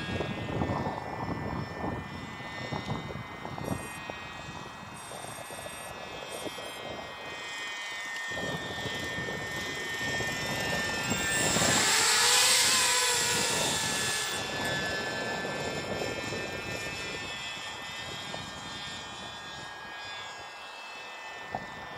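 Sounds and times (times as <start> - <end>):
model helicopter high-pitched drone: 0.0 - 21.9.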